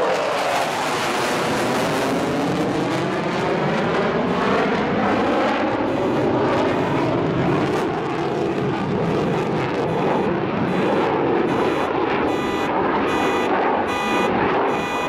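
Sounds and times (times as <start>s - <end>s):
fighter jet engines roaring overhead: 0.0s - 15.0s.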